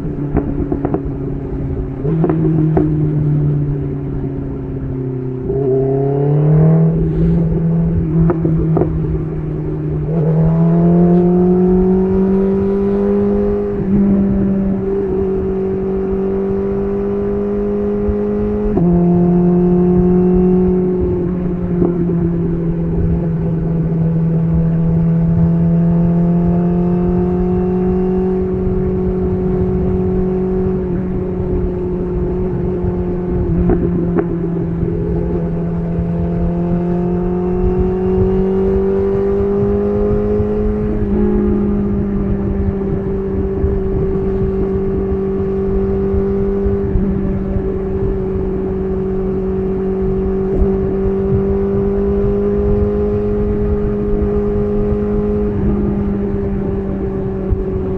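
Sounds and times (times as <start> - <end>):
motorcycle engine at light throttle: 0.0 - 57.9.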